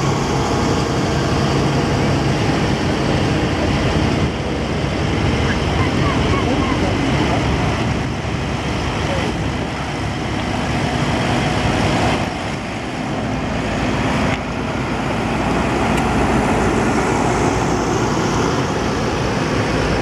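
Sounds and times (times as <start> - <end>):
tractor diesel engines running: 0.0 - 20.0.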